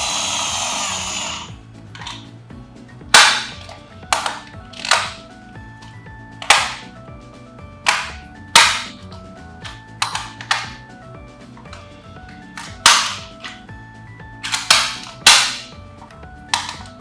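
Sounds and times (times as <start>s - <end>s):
hard objects clacking: 0.0s - 2.4s, 3.0s - 17.0s
faint background music: 0.0s - 17.0s.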